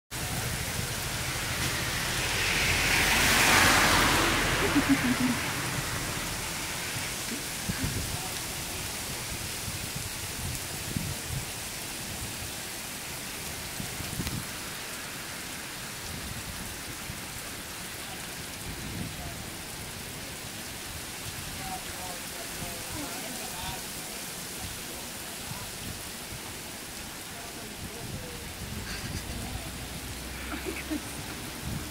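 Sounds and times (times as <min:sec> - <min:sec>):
heavy rain on a street: 0:00.1 - 0:31.9.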